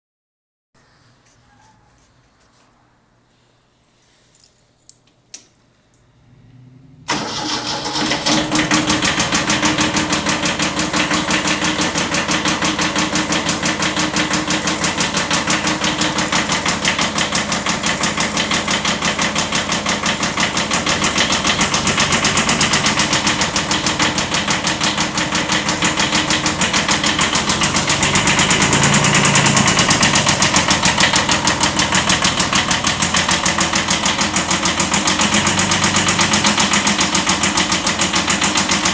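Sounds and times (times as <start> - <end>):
diesel engine starting and running: 6.0 - 38.9.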